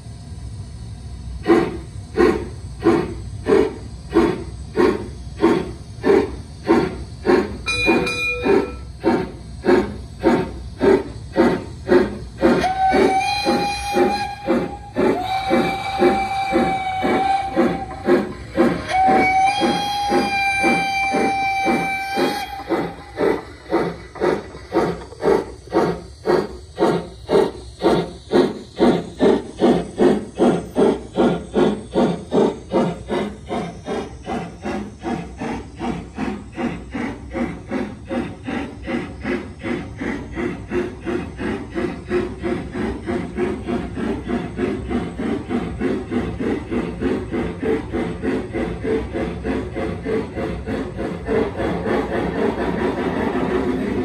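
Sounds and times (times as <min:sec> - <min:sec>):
model steam locomotive chuffing: 0:00.0 - 0:54.0.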